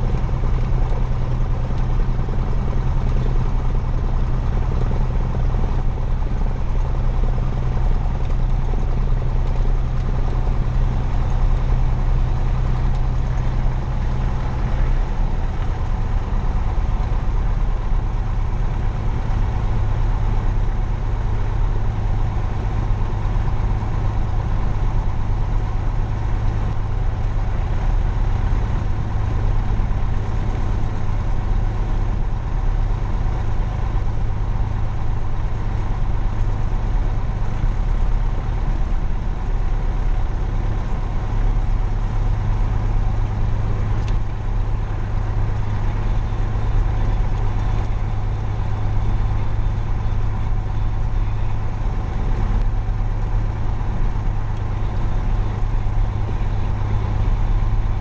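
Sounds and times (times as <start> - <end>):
aircraft engine idling: 0.0 - 58.0.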